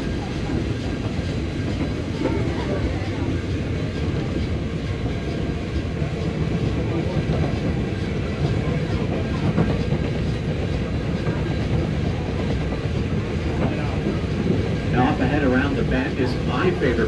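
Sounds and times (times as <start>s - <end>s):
rack railway train rumbling: 0.0s - 17.0s.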